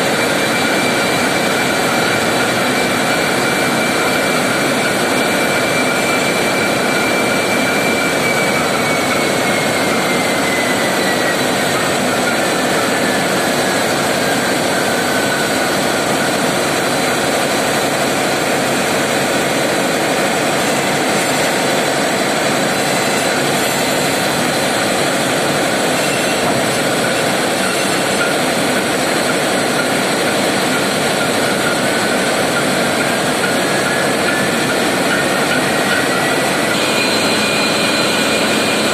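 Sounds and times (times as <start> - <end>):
diesel engines running: 0.0 - 38.9
high engine whine: 0.0 - 38.9.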